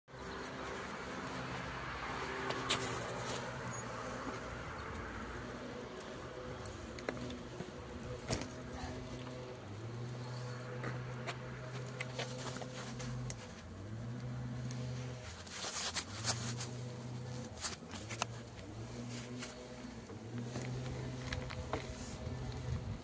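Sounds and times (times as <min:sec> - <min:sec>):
wheelchair motor humming: 0:00.1 - 0:23.0
wheels rattling over paving stones: 0:00.1 - 0:23.0.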